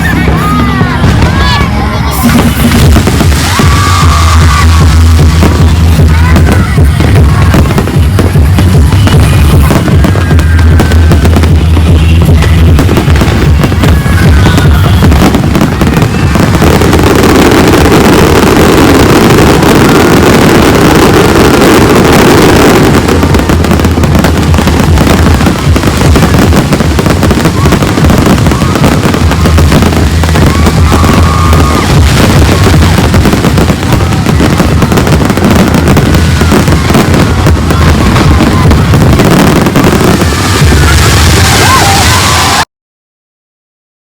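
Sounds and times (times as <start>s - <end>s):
loud music with heavy bass: 0.0s - 42.6s
fireworks exploding: 0.0s - 42.7s.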